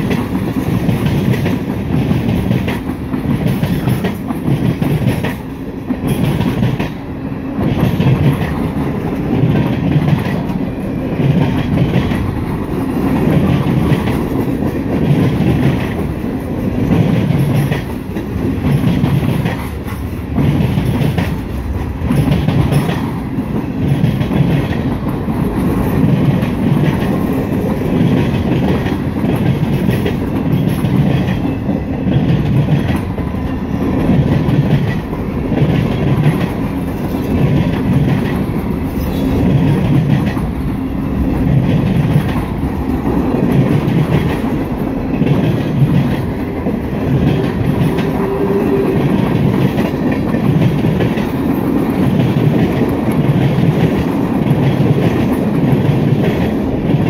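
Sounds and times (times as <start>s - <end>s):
wheels clicking over rail joints: 0.0s - 57.0s.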